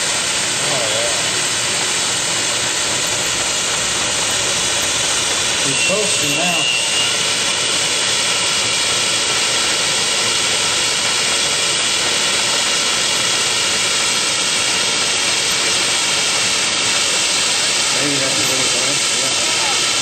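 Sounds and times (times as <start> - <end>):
steam engine hissing: 0.0 - 20.0.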